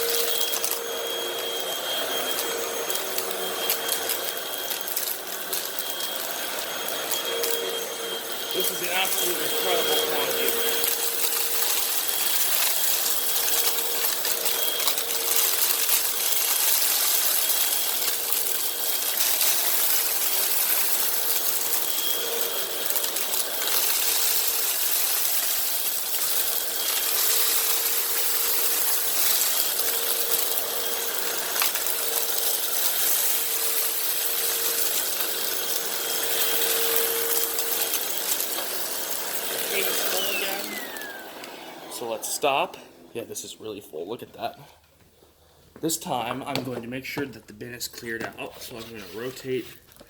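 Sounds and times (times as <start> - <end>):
debris clicking and rattling: 0.0 - 41.2
vacuum cleaner motor whine: 0.0 - 43.8.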